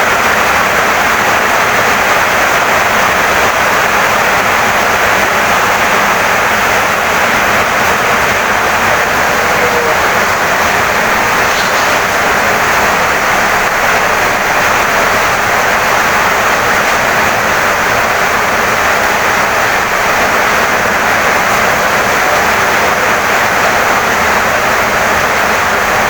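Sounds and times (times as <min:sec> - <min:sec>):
heavy rain on a wooden house: 0:00.0 - 0:26.0.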